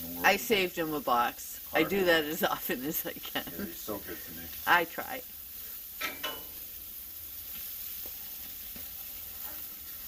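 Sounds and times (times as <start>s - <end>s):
sausage sizzling on griddle: 0.0s - 10.0s.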